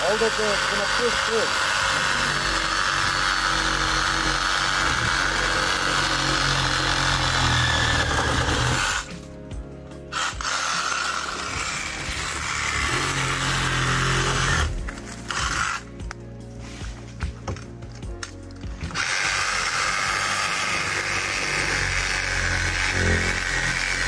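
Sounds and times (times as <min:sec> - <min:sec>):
chainsaw cutting branches: 0:00.0 - 0:16.2, 0:18.0 - 0:24.0
background music: 0:00.0 - 0:24.0.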